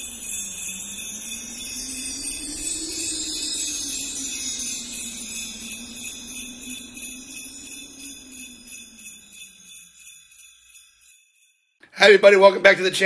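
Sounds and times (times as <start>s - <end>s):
sleigh bells shaken: 0.0s - 13.0s.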